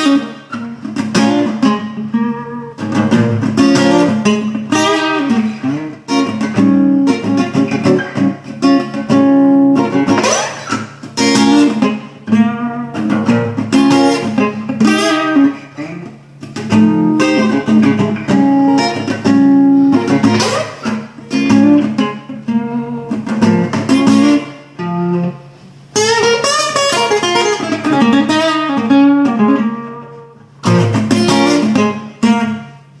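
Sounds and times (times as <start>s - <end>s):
acoustic guitar chords: 0.0s - 33.0s.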